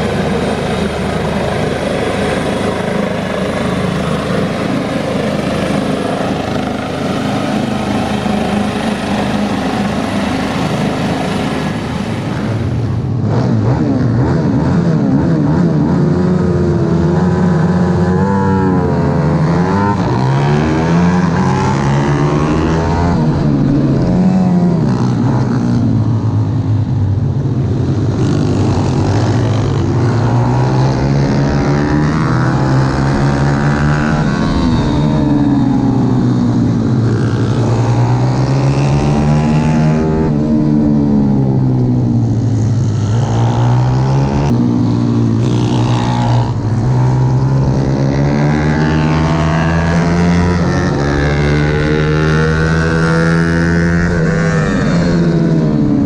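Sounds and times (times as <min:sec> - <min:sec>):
pit bike engine revving: 0:00.0 - 0:26.6, 0:27.6 - 0:56.0.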